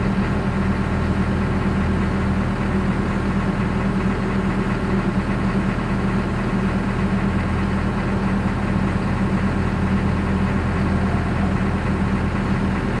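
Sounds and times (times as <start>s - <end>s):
heavy engine running: 0.0s - 13.0s.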